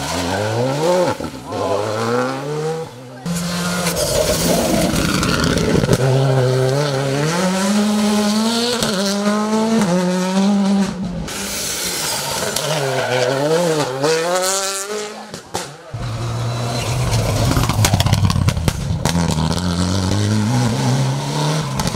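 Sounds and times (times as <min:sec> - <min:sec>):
rally car engine accelerating hard: 0:00.0 - 0:21.9.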